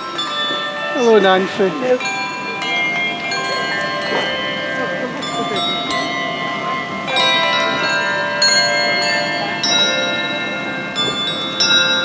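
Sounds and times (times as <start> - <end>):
handbell choir ringing chords: 0.0 - 12.0.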